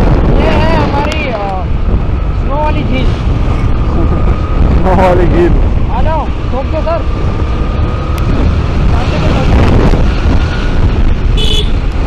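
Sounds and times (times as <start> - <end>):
road noise: 0.0 - 12.0
wind rushing over microphone: 0.0 - 12.0.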